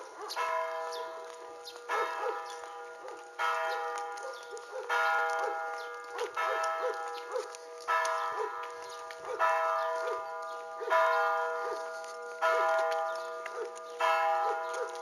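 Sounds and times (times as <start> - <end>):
church bell tolling: 0.0 - 15.0.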